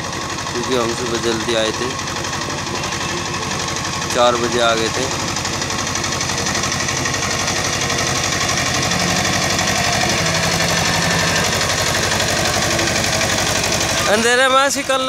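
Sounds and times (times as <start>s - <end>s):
tractor diesel engine knocking: 0.0s - 15.0s.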